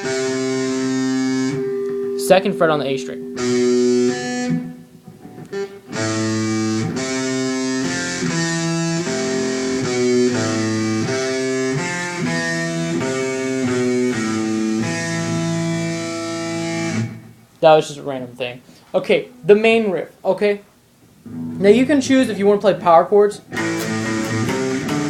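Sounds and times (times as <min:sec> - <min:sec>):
electric guitar riff: 0:00.0 - 0:17.4, 0:21.2 - 0:22.6, 0:23.4 - 0:25.0.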